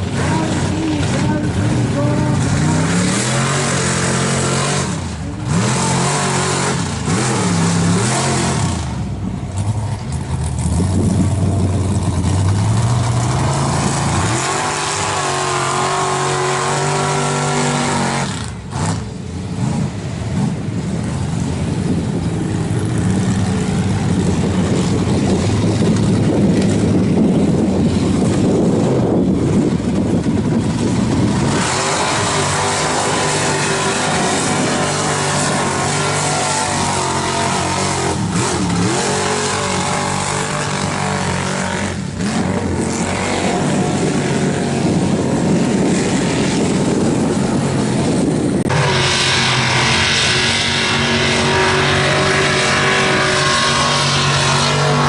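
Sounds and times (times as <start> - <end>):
truck engine revving hard: 0.0 - 55.0.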